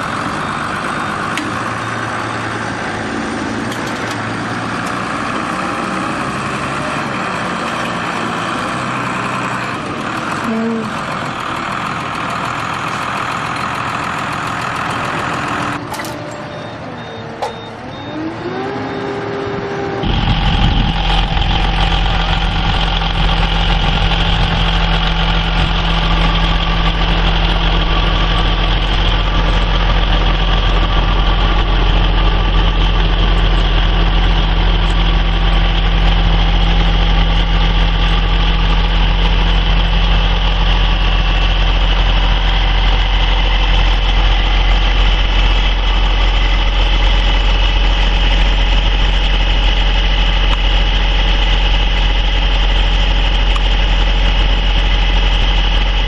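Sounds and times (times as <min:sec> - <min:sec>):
engine idling with deep hum: 0:00.0 - 0:02.6, 0:07.7 - 0:56.0
heavy vehicle engines running: 0:00.0 - 0:56.0.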